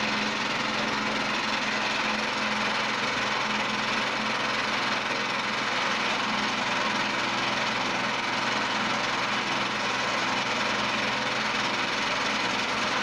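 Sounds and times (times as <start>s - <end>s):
concrete mixer petrol engine running: 0.0s - 13.0s.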